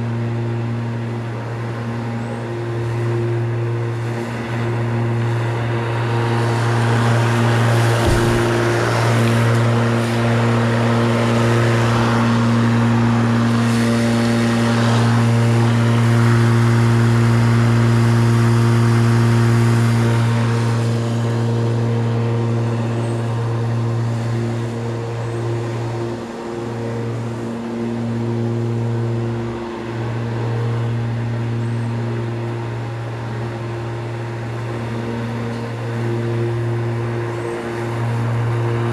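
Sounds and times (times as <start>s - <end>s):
lawnmower running: 0.0s - 38.9s.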